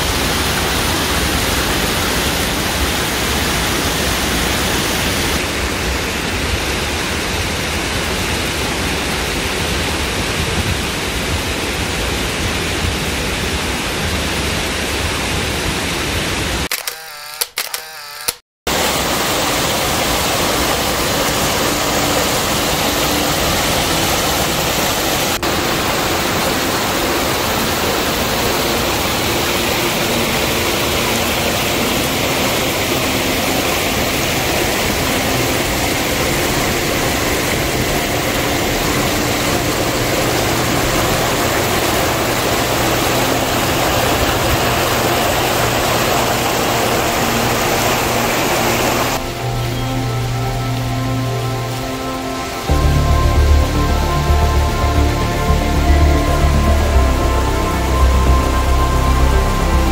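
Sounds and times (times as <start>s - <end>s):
stream rushing over rocks: 0.0s - 16.7s, 18.7s - 59.9s.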